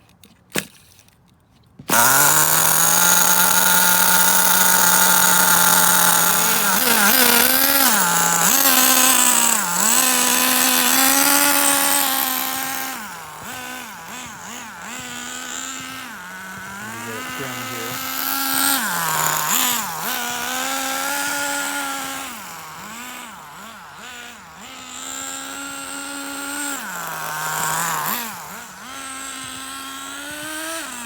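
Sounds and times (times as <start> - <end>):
small nitro engine idling: 1.9 - 31.0.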